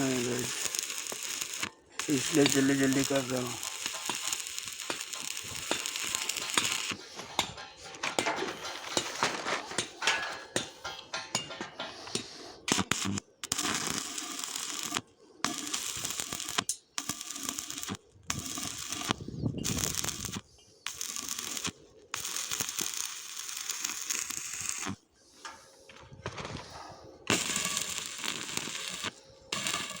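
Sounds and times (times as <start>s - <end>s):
welding crackling: 0.0s - 25.0s, 27.3s - 30.0s.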